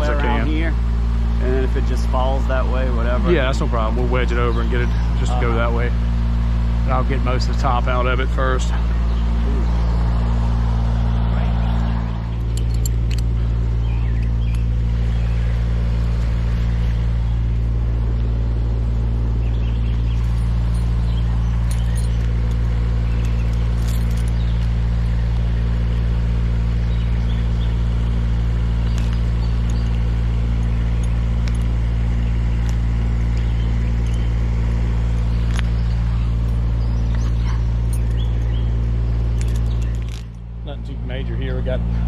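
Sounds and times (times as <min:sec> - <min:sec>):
engine humming steadily: 0:00.0 - 0:42.0.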